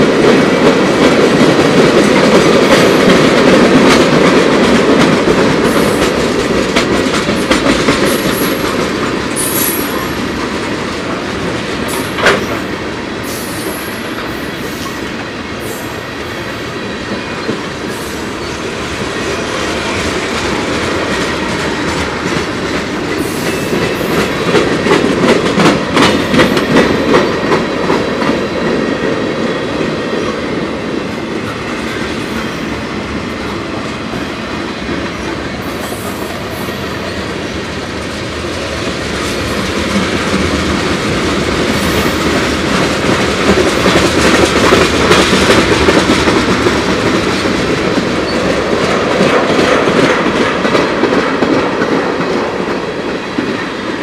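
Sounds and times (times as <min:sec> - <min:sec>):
train wheels clacking on rail: 0:00.0 - 0:54.0.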